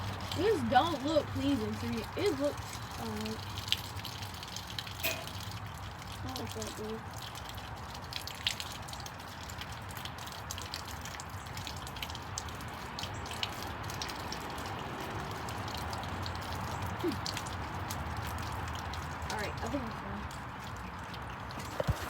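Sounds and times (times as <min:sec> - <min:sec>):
hose water splashing: 0:00.0 - 0:22.0.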